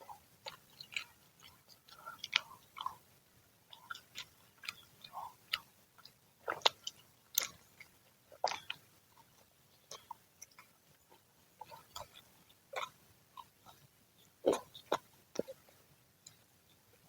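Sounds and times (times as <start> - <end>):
crunchy chewing: 0.0 - 3.1, 3.7 - 17.0.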